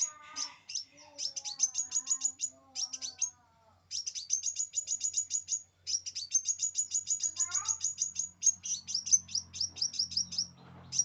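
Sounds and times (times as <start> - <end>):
songbirds chipping: 0.0 - 11.0.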